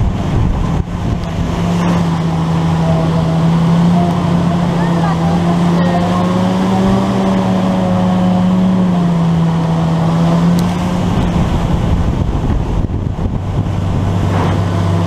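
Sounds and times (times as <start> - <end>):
rushing wind and snow: 0.0 - 15.0
vehicle engine driving fast: 0.0 - 15.0.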